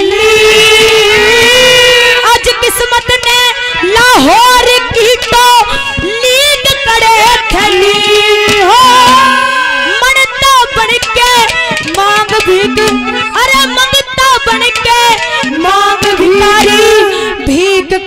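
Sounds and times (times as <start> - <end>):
woman singing into a microphone: 0.0 - 18.0.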